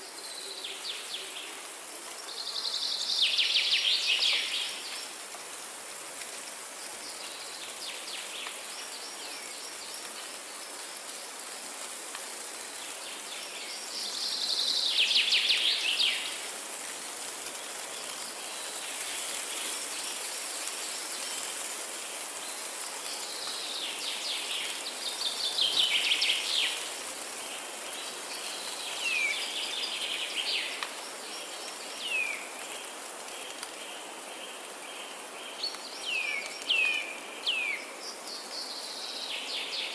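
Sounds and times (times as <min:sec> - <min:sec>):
light rain hissing: 0:00.0 - 0:39.9.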